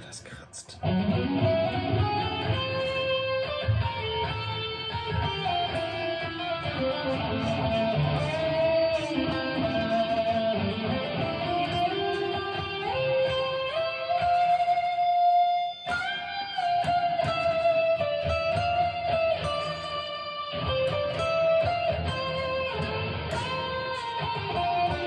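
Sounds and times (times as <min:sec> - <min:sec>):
distorted electric guitar lead: 0:00.8 - 0:25.0.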